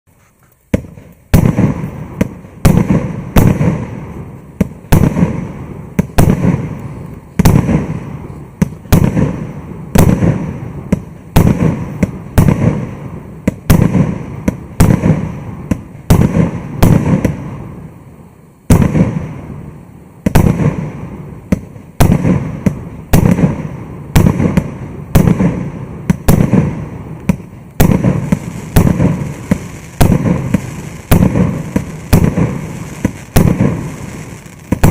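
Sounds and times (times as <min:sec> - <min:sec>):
firework bangs with rumbling tail: 0:00.7 - 0:17.9, 0:18.7 - 0:34.9.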